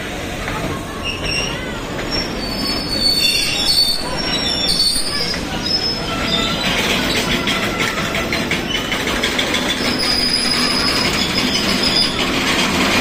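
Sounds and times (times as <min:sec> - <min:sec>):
train wheels rumbling on rails: 0:00.0 - 0:13.0
wheels clacking over rail joints: 0:00.4 - 0:13.0
high wheel squeals: 0:01.0 - 0:13.0.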